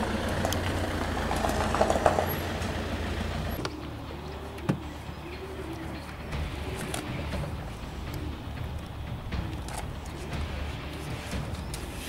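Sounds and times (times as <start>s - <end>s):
gravel crackling under tyres: 0.0s - 12.0s
low engine rumble: 0.0s - 12.0s.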